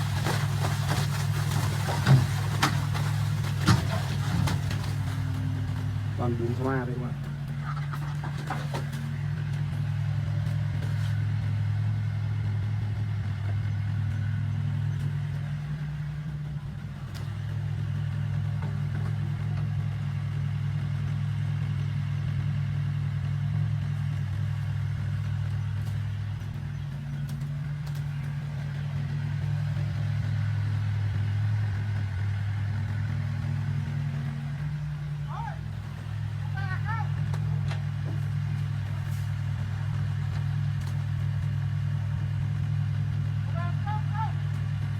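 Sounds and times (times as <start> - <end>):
heavy machinery diesel engine running: 0.0 - 44.9.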